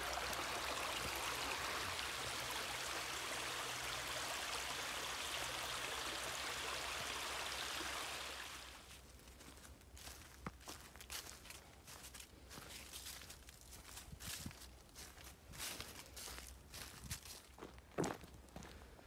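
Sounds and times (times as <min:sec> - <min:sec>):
creek water trickling: 0:00.0 - 0:16.9.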